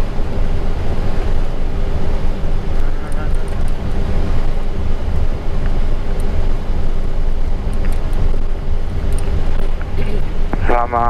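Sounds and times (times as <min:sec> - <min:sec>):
aircraft engines idling: 0:00.0 - 0:11.0
faint steady hum: 0:00.0 - 0:11.0.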